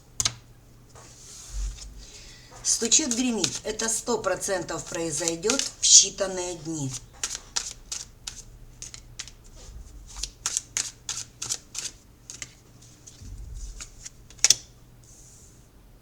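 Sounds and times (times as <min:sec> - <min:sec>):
cards being shuffled: 0:01.0 - 0:14.6.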